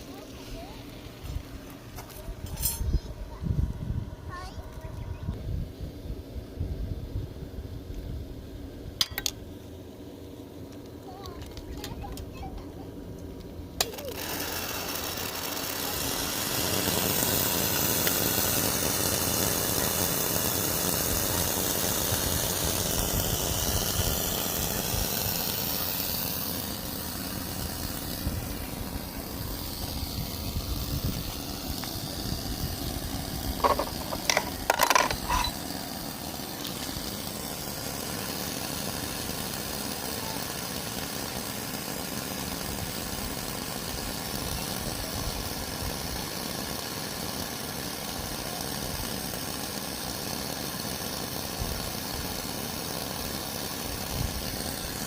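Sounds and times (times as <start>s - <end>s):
steam locomotive running: 0.0s - 5.4s, 8.3s - 55.0s
steam hiss: 0.0s - 55.0s.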